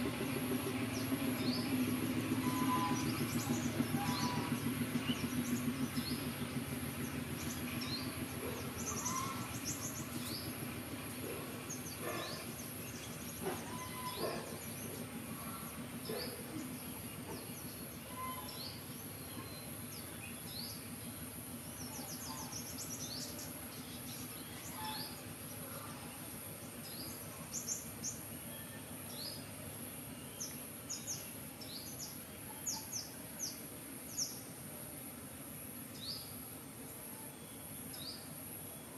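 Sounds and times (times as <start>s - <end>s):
small birds chirping: 0.0s - 34.5s
low background noise: 0.0s - 38.9s.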